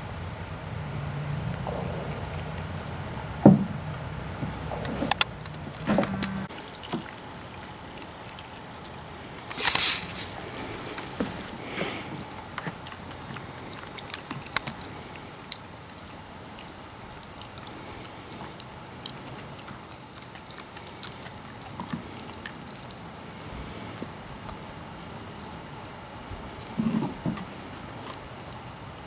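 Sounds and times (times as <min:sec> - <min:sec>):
dog licking and crunching bone: 0:01.2 - 0:03.0, 0:04.8 - 0:29.0.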